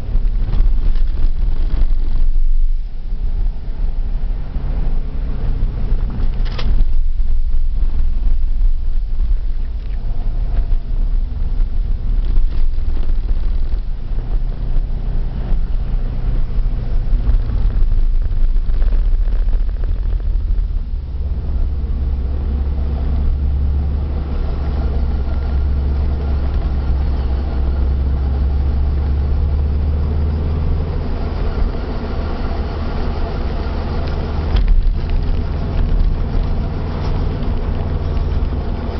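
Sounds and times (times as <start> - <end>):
faint wheel bearing drone: 0.0 - 38.9
road and drivetrain rumble: 0.0 - 38.9.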